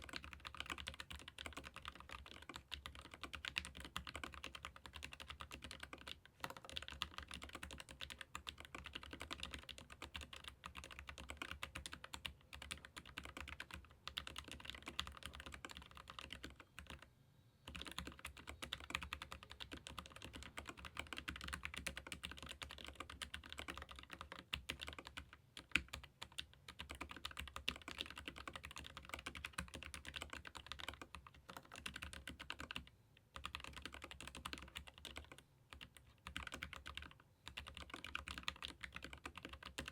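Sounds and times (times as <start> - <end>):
fast keyboard typing: 0.0 - 17.0, 17.7 - 39.9.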